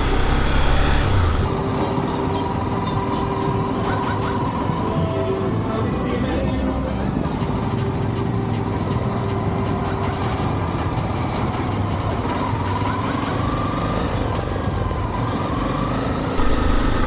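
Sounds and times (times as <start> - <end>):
motorcycle engine running: 0.0 - 5.8, 7.1 - 17.0
faint rising and falling tone: 0.0 - 14.6
rushing noise: 0.0 - 17.0.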